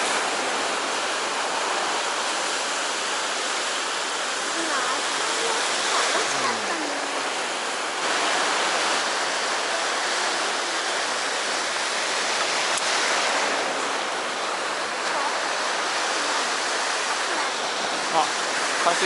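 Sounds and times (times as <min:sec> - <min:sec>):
surf washing on shore: 0:00.0 - 0:19.0.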